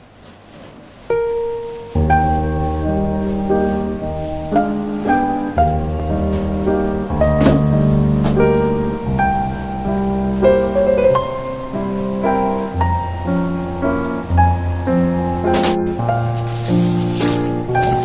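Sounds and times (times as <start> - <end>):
piano music: 0.9 - 18.0.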